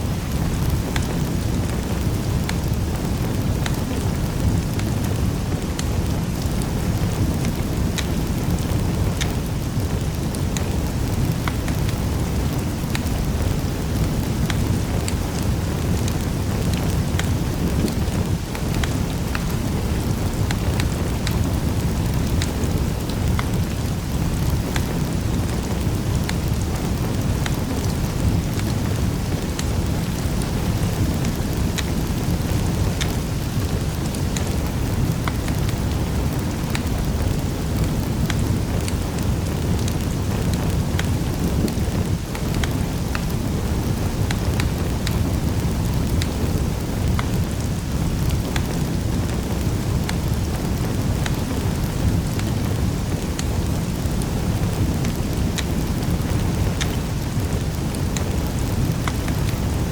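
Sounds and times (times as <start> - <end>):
fire burning rush: 0.0 - 59.9
fire crackles and pops: 0.0 - 59.9.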